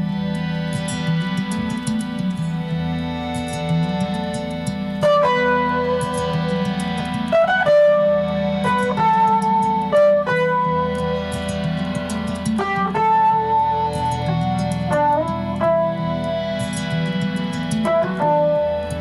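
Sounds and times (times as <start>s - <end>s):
slow ambient guitar: 0.0s - 19.0s
steady low drone: 0.0s - 19.0s.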